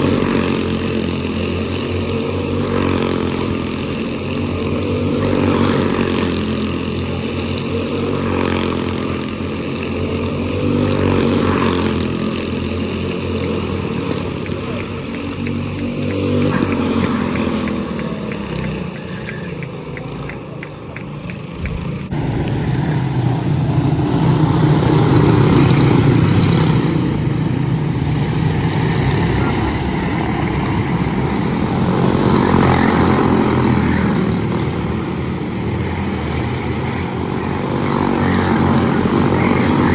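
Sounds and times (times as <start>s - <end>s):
rough loud engine: 0.0s - 39.9s
small race car engines: 0.0s - 39.9s.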